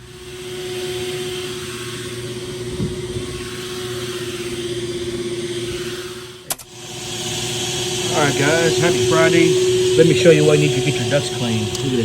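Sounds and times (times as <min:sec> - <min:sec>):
machine air rushing and humming: 0:00.0 - 0:12.0.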